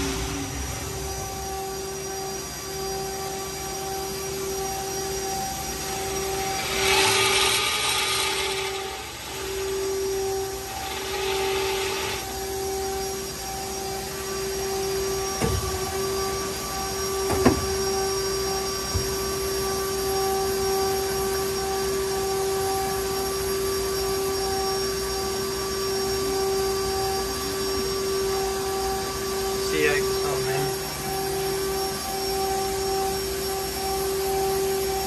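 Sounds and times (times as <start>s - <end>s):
machine drive whine: 0.0s - 35.0s.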